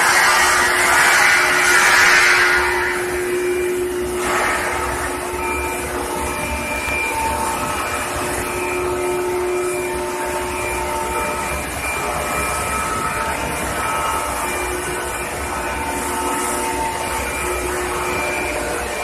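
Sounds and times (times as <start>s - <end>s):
faint steady tones: 2.4s - 19.0s.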